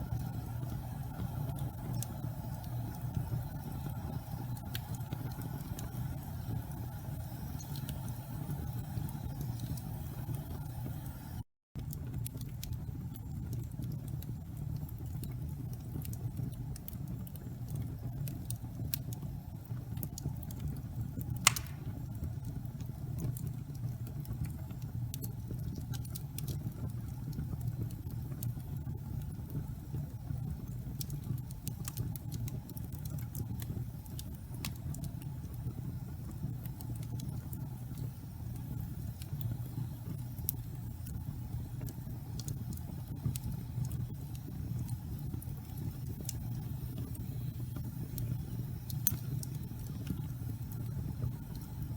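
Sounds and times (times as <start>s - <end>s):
low rumble of fire flames: 0.0s - 51.9s
wood fire crackles and pops: 0.0s - 51.9s.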